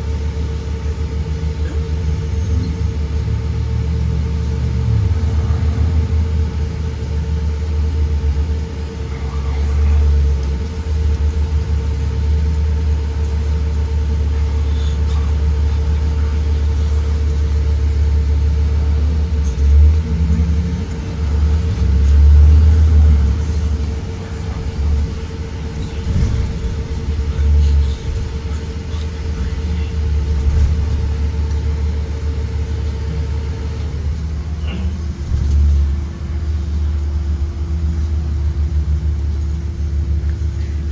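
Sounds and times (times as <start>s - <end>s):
bus engine and road rumble: 0.0s - 40.9s
steady hum: 0.0s - 40.9s.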